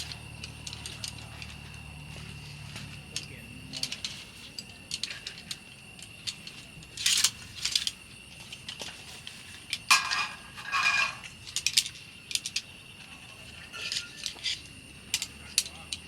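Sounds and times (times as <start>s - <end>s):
small metal objects clinking: 3.1s - 16.0s.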